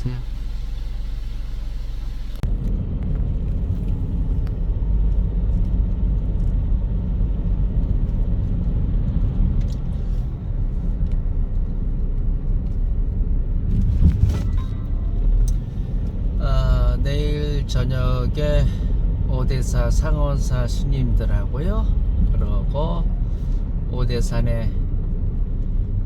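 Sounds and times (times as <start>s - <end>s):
car road rumble inside cabin: 0.0s - 26.0s.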